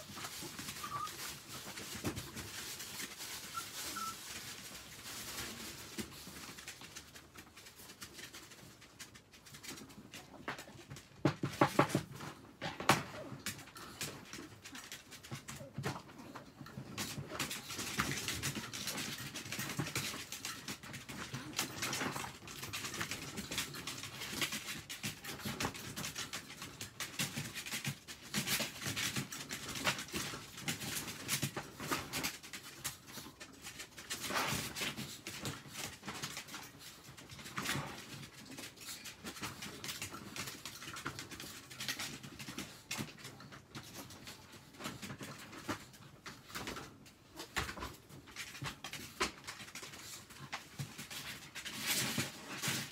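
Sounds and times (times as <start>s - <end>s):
dog claws pattering: 0.0s - 52.9s
rustling and small knocks: 0.0s - 52.9s.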